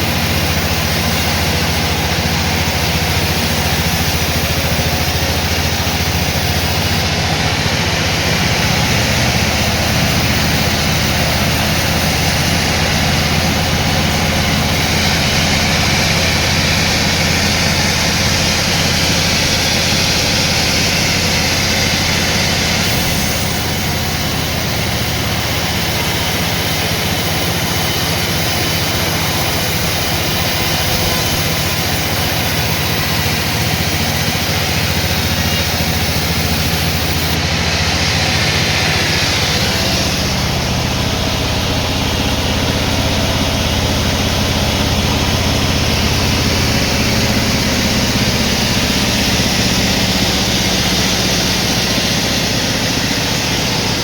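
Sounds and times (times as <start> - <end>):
hiss: 0.0 - 54.0
sawmill machinery humming: 0.0 - 54.0.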